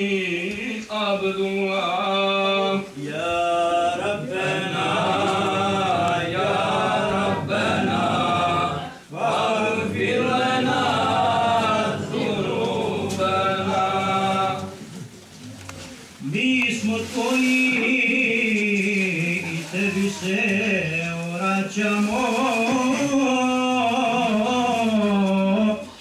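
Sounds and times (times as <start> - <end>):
men chanting a hymn: 0.0 - 15.1, 16.2 - 26.0.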